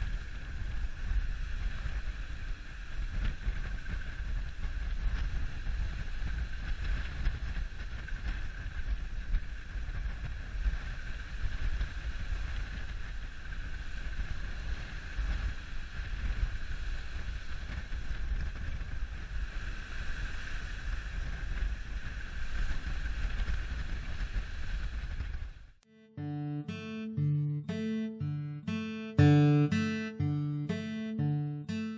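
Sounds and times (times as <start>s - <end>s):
wind buffeting microphone: 0.0s - 25.7s.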